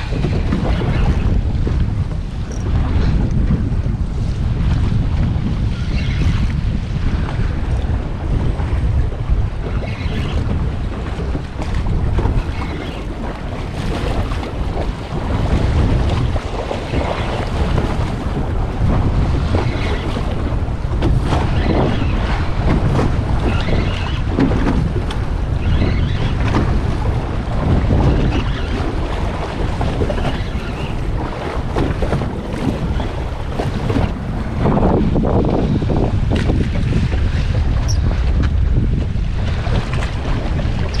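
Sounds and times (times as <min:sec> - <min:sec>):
sea water splashing around boat: 0:00.0 - 0:41.0
wind buffeting microphone: 0:00.0 - 0:41.0.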